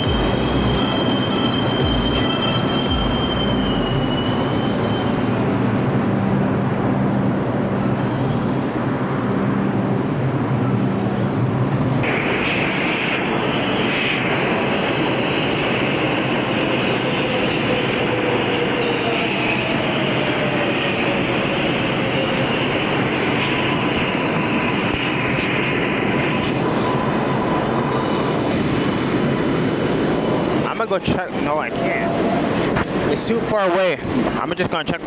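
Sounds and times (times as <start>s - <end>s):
subway train wheels rumbling: 0.0s - 35.0s.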